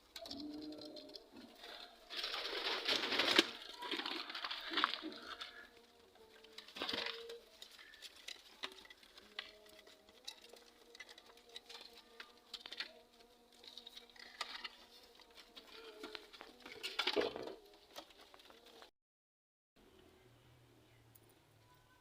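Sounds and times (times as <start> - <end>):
birds clicking and scratching: 0.0 - 18.9.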